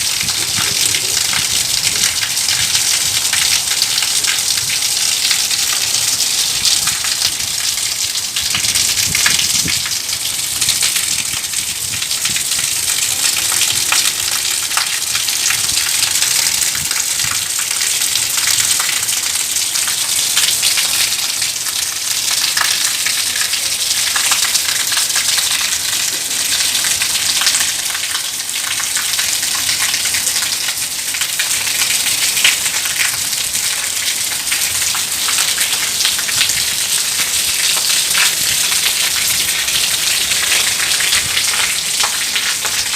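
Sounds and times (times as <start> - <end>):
steady rain pattering: 0.0 - 42.9.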